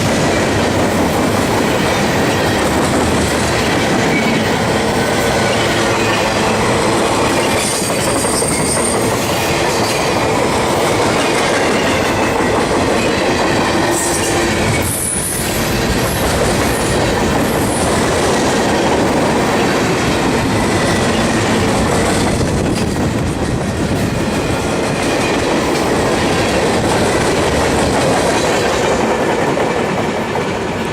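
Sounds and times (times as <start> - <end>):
freight train wheels rumbling: 0.0 - 30.9.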